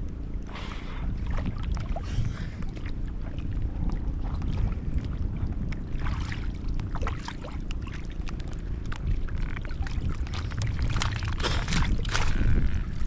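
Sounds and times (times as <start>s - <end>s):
low rumble: 0.0s - 13.0s
water splashing against boat: 0.0s - 13.0s.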